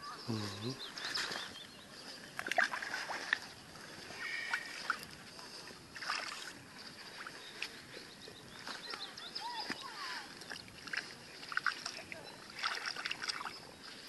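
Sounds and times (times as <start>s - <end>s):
water sloshing: 0.7s - 14.0s
fish splashing in shallow water: 1.0s - 14.0s.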